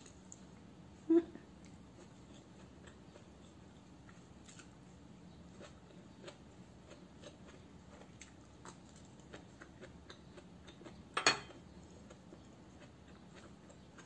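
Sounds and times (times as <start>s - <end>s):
person chewing: 1.6s - 14.0s.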